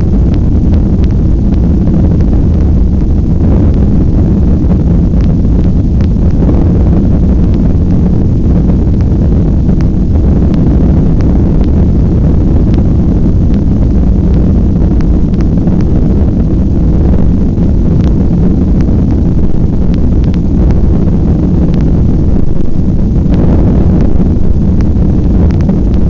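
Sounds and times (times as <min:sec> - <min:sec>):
jet engines rumbling in cabin: 0:00.0 - 0:26.0.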